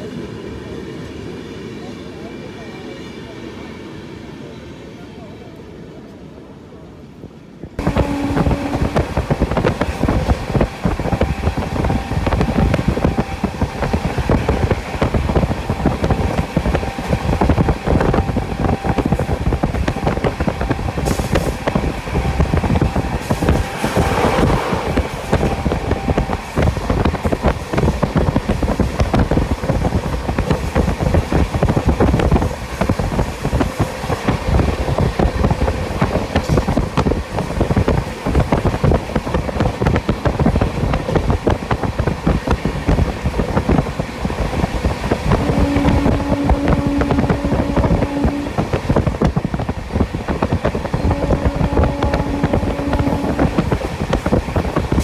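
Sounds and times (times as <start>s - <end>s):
rushing train noise: 0.0s - 55.0s
train wheels clattering on rails: 7.8s - 55.0s.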